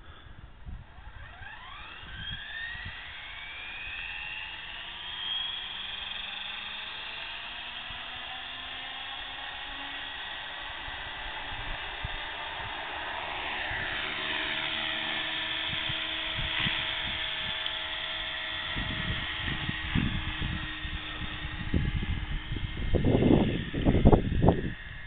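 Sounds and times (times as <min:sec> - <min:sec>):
rc helicopter whining: 0:00.0 - 0:25.0.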